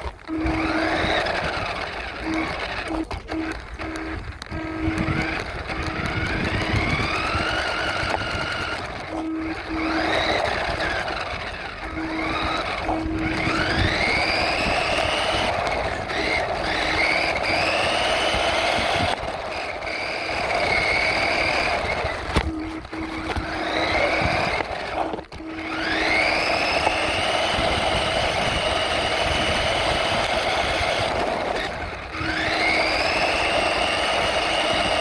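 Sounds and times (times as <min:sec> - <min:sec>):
toy truck motor whining: 0:00.0 - 0:35.0.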